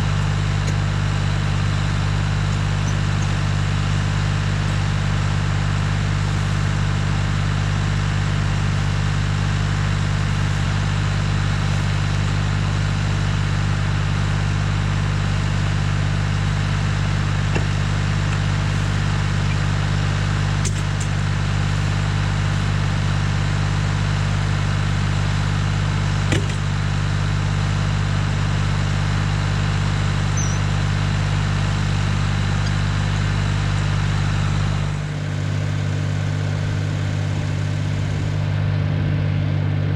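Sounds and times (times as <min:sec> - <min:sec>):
tractor engine running: 0:00.0 - 0:39.9
wood chipper: 0:00.0 - 0:39.9.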